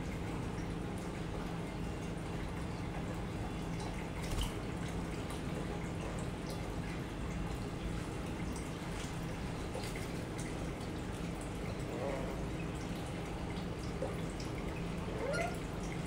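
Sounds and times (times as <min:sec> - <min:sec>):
low pump hum: 0:00.0 - 0:16.0
water trickling and dripping: 0:00.0 - 0:16.0.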